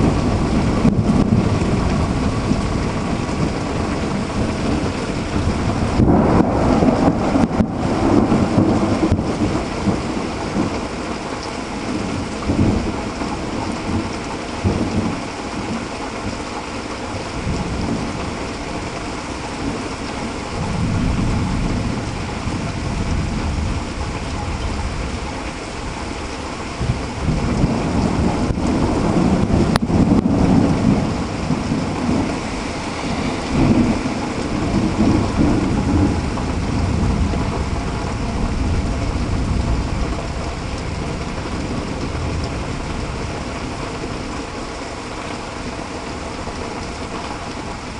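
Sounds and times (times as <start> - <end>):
rolling thunder: 0.0 - 16.4, 17.1 - 47.9
heavy rain: 0.0 - 47.9.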